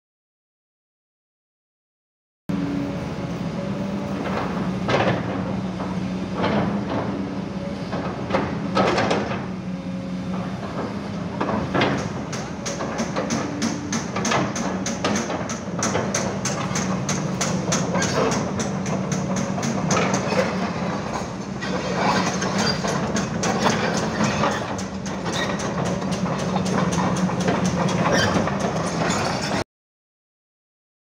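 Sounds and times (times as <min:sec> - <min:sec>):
excavator diesel engine running: 0:02.5 - 0:29.6.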